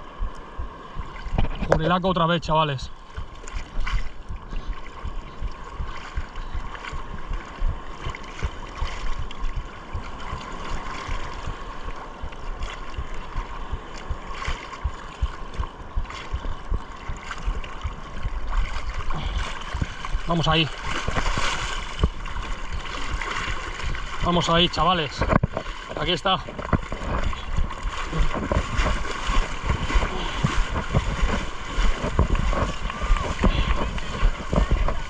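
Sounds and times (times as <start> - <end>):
sea water sloshing and splashing: 0.0 - 35.0
wind buffeting microphone: 0.0 - 35.0.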